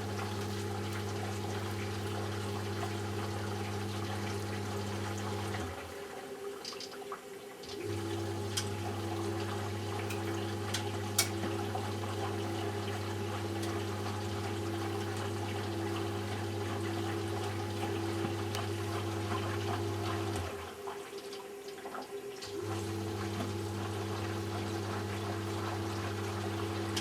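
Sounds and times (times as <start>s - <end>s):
washing machine motor humming: 0.0s - 6.5s, 7.6s - 27.0s
water sloshing in drum: 0.0s - 27.0s.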